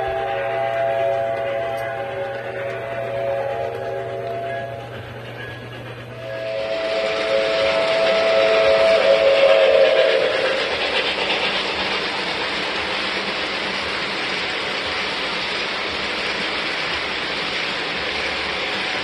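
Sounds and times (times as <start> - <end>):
model train wheels on track: 0.0 - 19.0
train steam whistle: 0.0 - 19.0.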